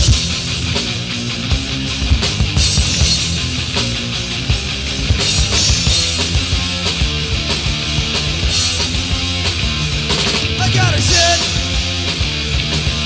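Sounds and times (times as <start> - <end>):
bass guitar: 0.0 - 13.0
distorted guitar: 0.0 - 13.0
drum kit with crashing cymbals: 0.0 - 13.0.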